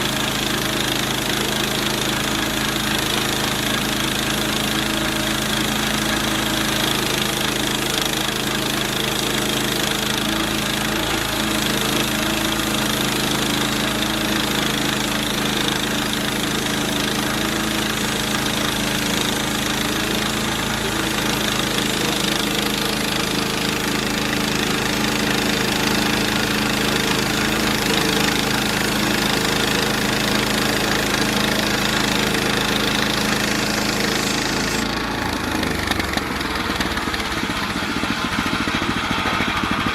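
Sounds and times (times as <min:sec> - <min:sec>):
band saw cutting log: 0:00.0 - 0:39.9
small gasoline engine running: 0:00.0 - 0:39.9.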